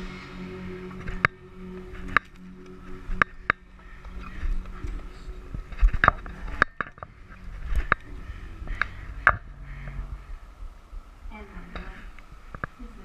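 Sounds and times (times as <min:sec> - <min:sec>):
low rumbling handling noise: 0:00.6 - 0:13.0.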